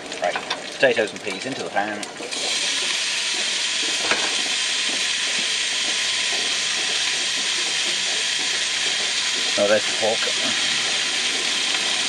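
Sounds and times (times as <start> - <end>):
potatoes sizzling in a hot pan: 0.0 - 12.0.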